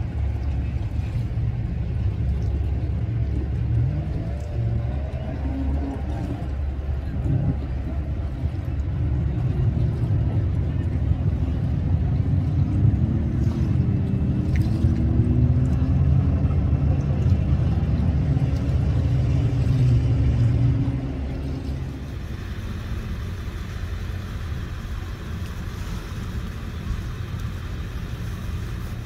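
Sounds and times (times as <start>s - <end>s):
speedboat engine rumbling: 0.0s - 29.0s.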